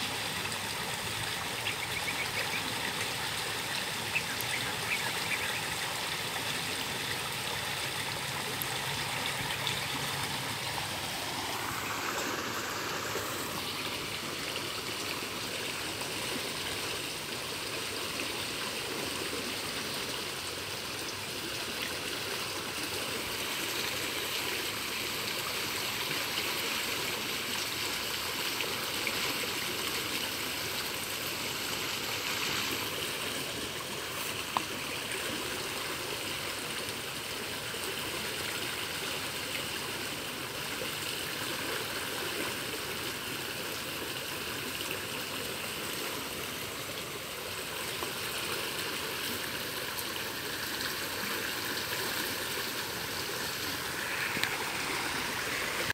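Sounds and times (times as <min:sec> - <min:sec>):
river current flowing: 0:00.0 - 0:55.9.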